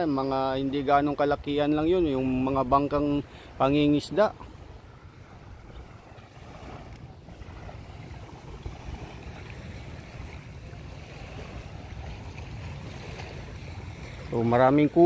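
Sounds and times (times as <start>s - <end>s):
calm sea water at shore: 0.0s - 15.0s
wind buffeting microphone: 0.0s - 15.0s.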